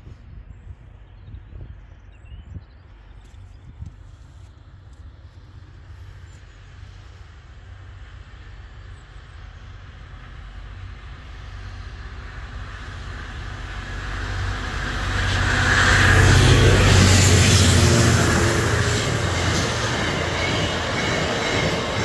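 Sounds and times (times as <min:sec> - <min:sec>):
diesel locomotive engine running: 0:03.4 - 0:22.0.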